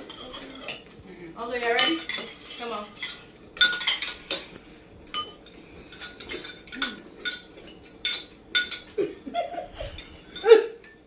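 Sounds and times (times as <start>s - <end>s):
spoons clinking against bowls: 0.0s - 9.1s, 9.7s - 11.0s.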